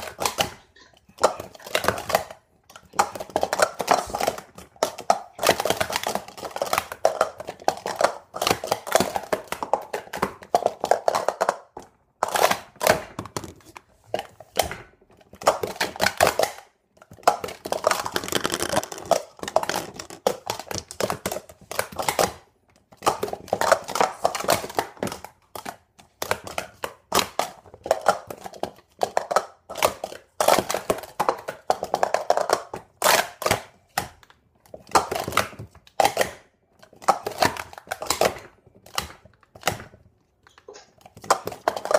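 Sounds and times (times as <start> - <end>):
plastic cups clattering: 0.0 - 41.9.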